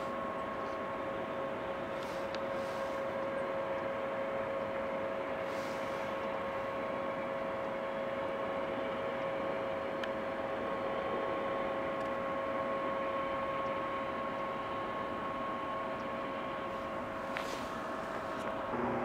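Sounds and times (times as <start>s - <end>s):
jet engine whine: 0.0s - 19.0s.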